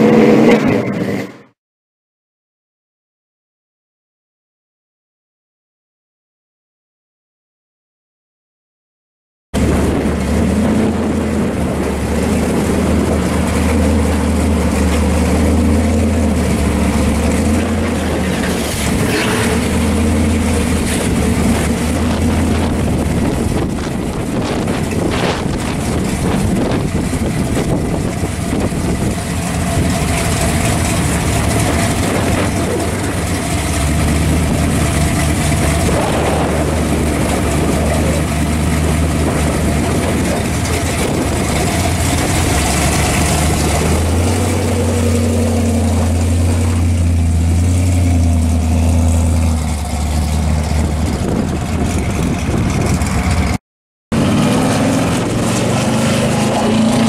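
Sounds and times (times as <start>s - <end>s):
car engine idling loudly: 9.6s - 57.0s
car pulling away: 9.6s - 57.0s.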